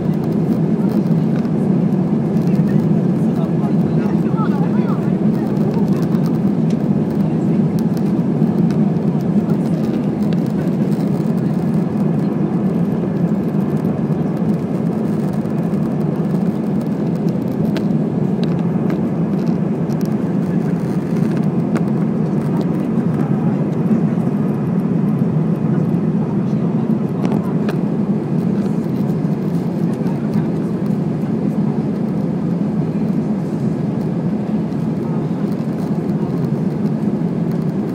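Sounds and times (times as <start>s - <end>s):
jet engine cabin roar: 0.0s - 37.9s.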